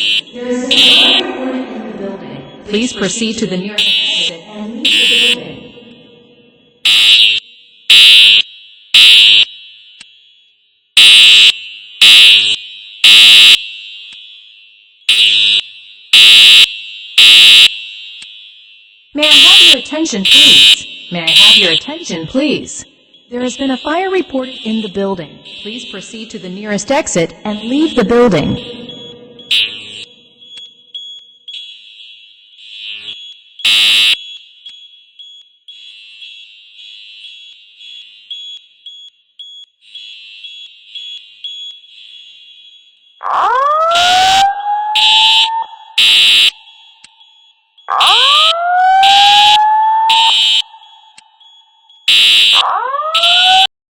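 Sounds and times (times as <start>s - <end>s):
fire alarm beeps: 0.0s - 53.7s.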